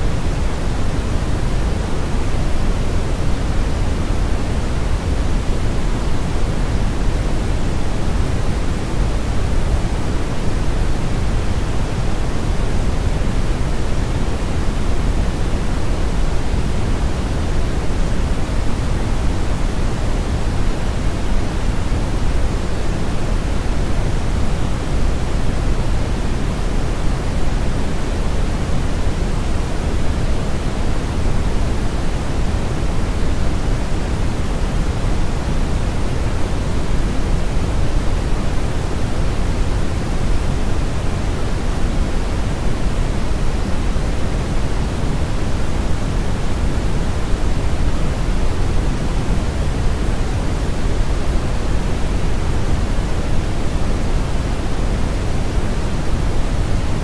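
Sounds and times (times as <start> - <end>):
steady brown noise: 0.0 - 57.0.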